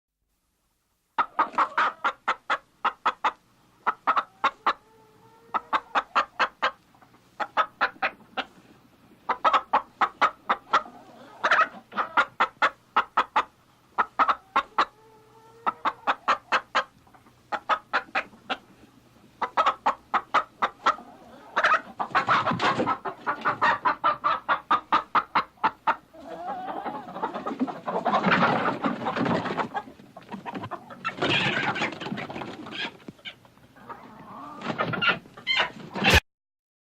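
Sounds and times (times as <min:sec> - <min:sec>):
hens clucking: 0:01.2 - 0:36.2.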